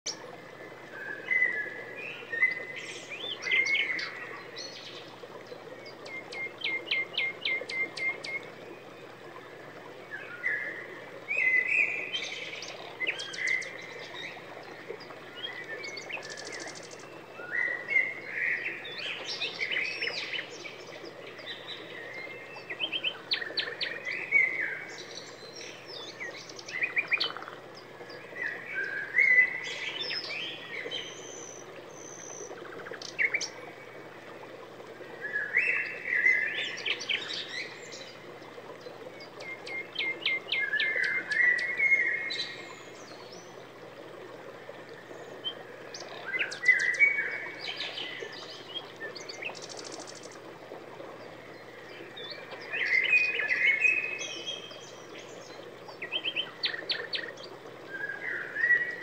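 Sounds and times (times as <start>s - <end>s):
birds singing: 0.1s - 34.4s, 35.0s - 59.0s.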